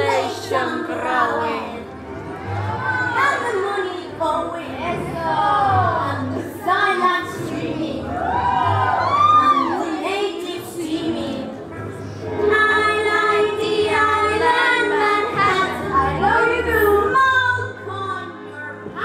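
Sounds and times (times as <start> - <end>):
instrumental backing music: 0.0 - 19.0.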